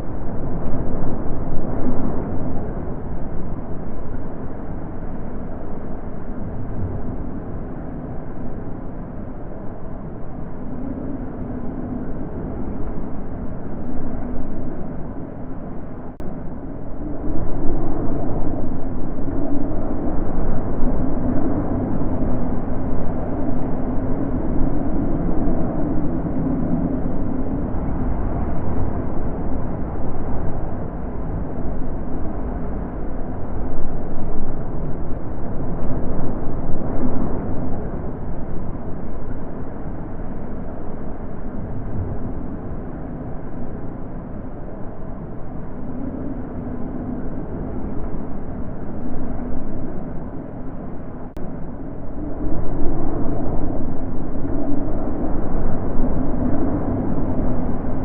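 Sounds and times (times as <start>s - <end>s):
wind blowing: 0.0s - 58.0s.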